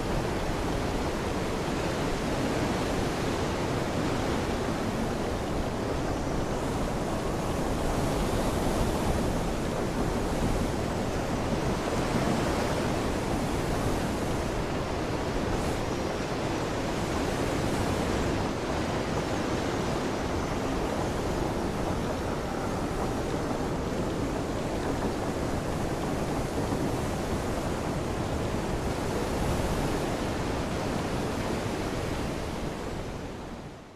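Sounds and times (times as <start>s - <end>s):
rushing water: 0.0s - 33.9s
wind: 0.0s - 33.9s.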